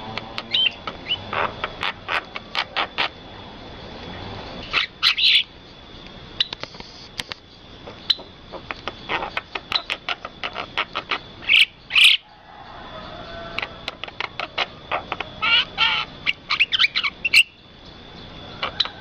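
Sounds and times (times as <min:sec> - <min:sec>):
harsh bird calls: 0:00.0 - 0:06.6, 0:07.4 - 0:19.0
birds chirping: 0:00.0 - 0:19.0
faint high whine: 0:00.0 - 0:19.0.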